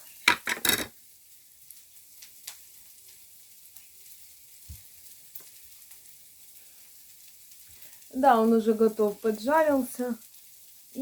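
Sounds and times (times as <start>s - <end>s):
onion sizzling in a pan: 0.0s - 11.0s.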